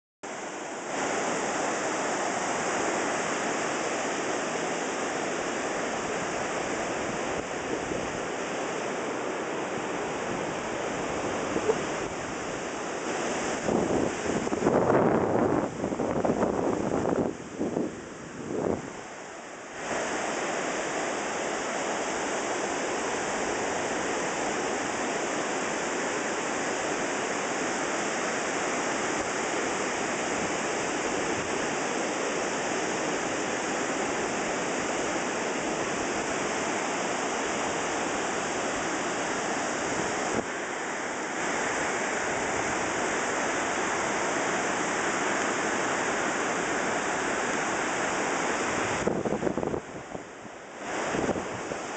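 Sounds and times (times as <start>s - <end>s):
surf rushing on beach: 0.3s - 51.9s.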